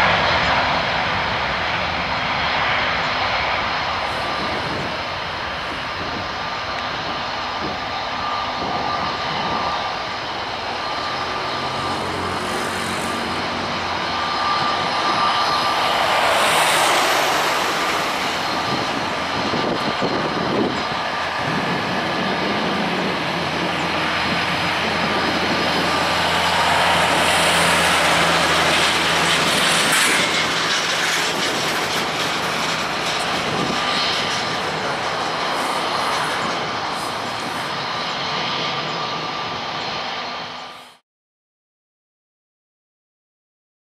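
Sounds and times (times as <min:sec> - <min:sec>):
jet engines at takeoff thrust: 0:00.0 - 0:41.0.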